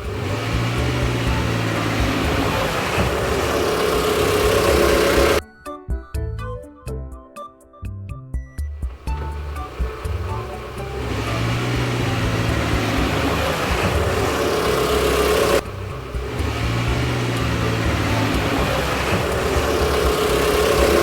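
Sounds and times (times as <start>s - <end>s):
vehicle engine running: 0.0s - 5.4s, 8.9s - 21.0s.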